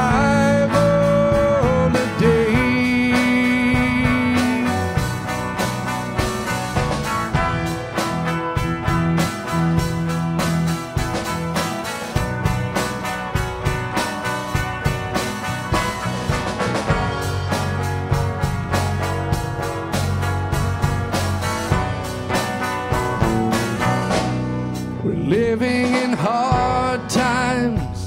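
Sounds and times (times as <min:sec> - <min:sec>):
band playing sustained chords: 0:00.0 - 0:28.0
drum kit beat: 0:00.0 - 0:28.0.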